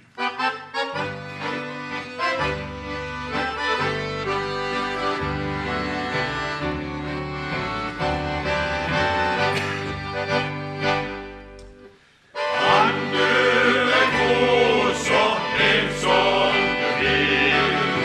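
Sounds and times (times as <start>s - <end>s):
accordion playing: 0.0s - 18.0s.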